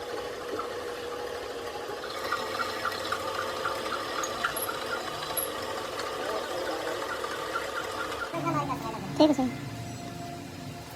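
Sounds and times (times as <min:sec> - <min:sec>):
constant hum: 0:00.0 - 0:10.9
mechanical ticking: 0:02.0 - 0:10.9.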